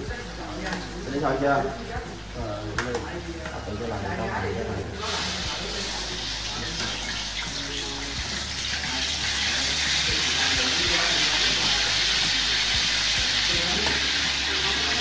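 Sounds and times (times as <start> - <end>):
meat deep-frying in oil: 0.0 - 15.0.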